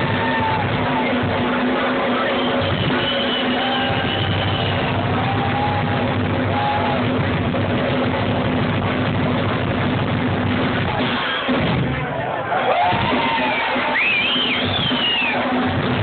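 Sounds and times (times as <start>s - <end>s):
drums: 0.0s - 16.0s.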